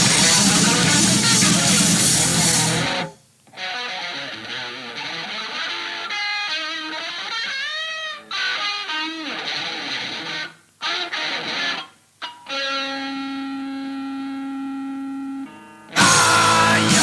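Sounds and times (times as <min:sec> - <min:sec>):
electric guitar riff: 0:00.0 - 0:17.0.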